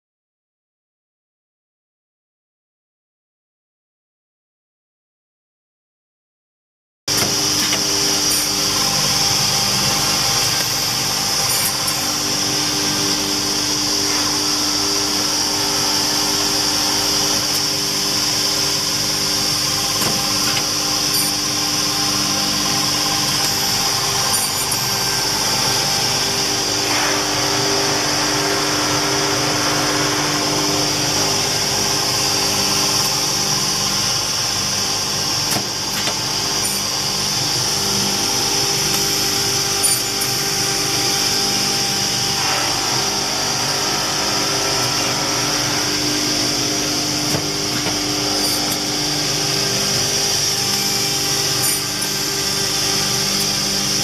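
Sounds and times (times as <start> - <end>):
high whine: 7.1 - 54.0
machine motors humming: 7.1 - 54.0.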